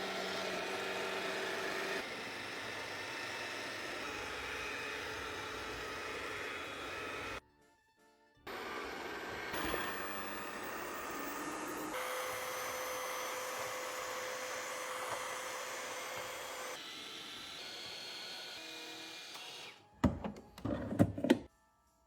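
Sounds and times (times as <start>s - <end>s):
robot vacuum whirring: 0.0s - 7.4s, 8.5s - 19.8s.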